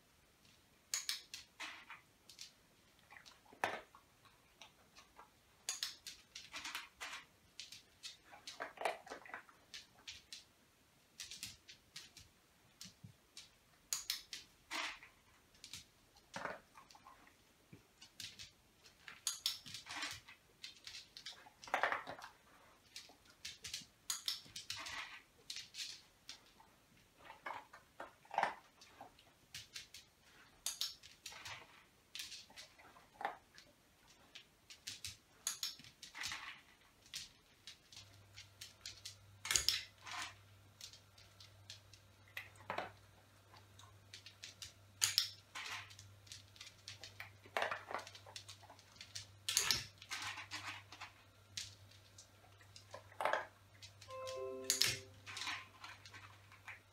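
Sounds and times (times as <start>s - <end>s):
puppy clicks and taps on tiles: 0.4s - 56.9s.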